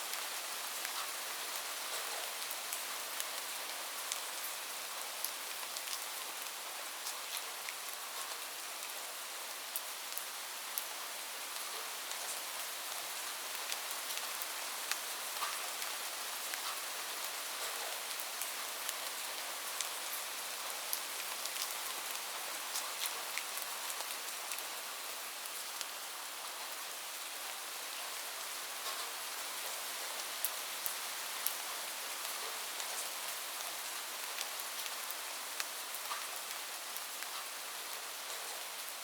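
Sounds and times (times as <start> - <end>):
steady rainfall hiss: 0.0 - 39.0.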